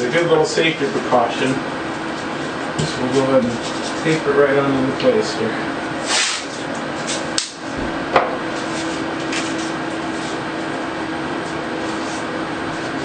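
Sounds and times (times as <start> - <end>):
steady hum and hiss: 0.0 - 13.0.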